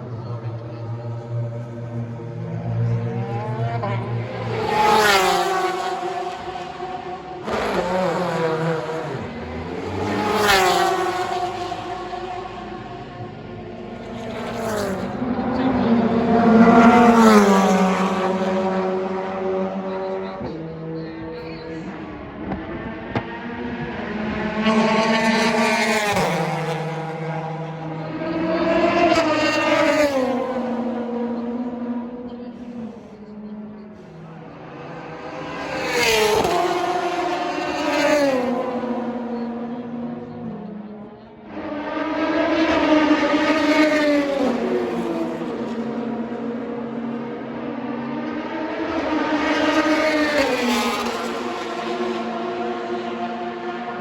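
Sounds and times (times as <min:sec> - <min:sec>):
race cars passing at speed: 0:00.0 - 0:54.0.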